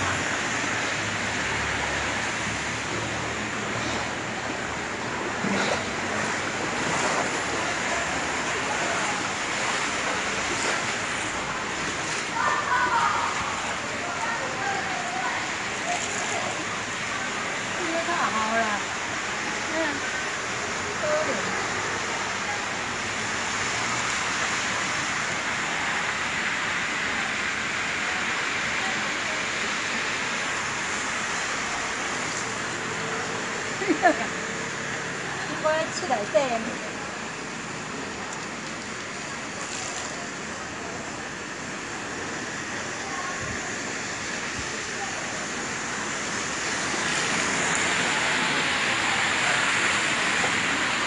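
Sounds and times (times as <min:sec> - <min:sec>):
heavy rain pouring onto floodwater: 0:00.0 - 0:51.0.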